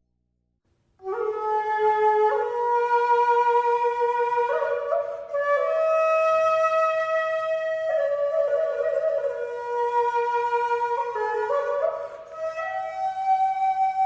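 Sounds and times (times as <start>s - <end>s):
flute playing long notes: 1.0s - 14.0s.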